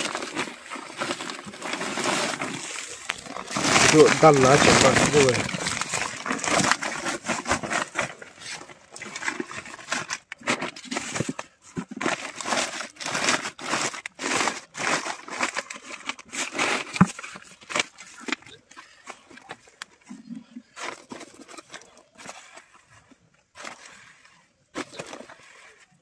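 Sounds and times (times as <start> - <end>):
plastic sacks crinkling: 0.0 - 19.8, 24.7 - 26.0.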